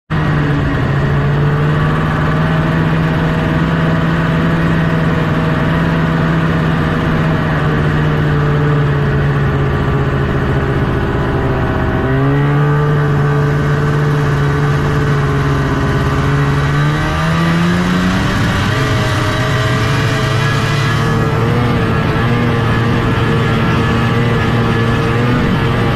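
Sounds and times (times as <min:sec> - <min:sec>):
snowmobile engine running: 0:00.1 - 0:25.9.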